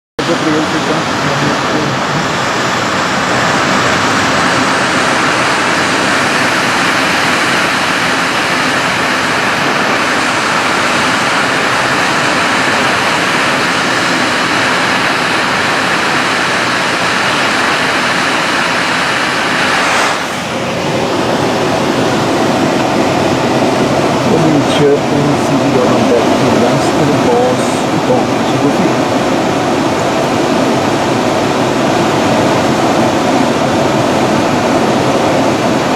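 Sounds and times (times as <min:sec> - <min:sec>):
airflow rushing over glider: 0:00.2 - 0:35.9.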